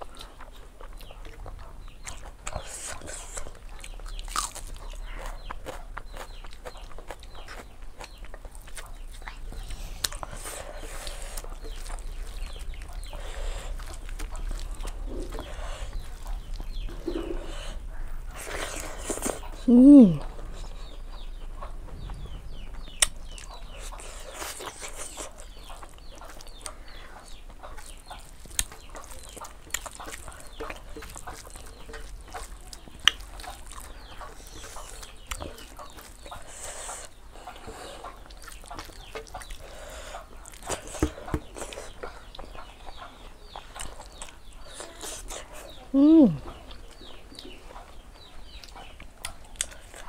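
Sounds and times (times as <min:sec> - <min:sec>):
chewing and mouth smacks: 0:00.0 - 0:17.7, 0:18.3 - 0:45.8, 0:46.4 - 0:50.0
chicken clucking: 0:00.0 - 0:18.8, 0:19.4 - 0:49.8
faint bird chirping: 0:00.0 - 0:50.0.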